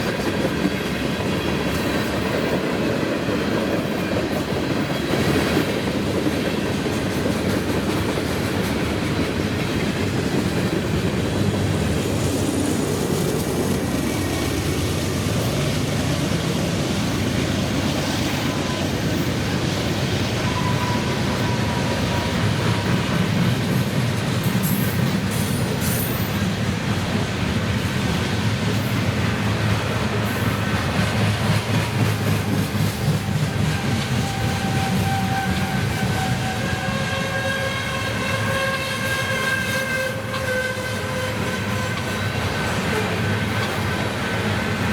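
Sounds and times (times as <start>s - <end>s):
freight train clattering over rails: 0.0s - 44.9s.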